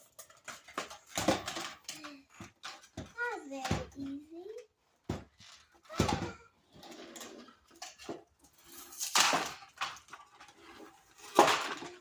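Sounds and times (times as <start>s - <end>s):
toy lockers clattering: 0.0s - 12.0s.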